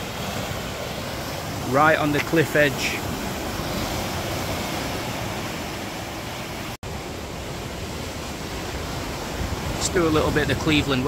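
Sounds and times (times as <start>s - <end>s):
surf breaking over rocks: 0.0s - 11.0s.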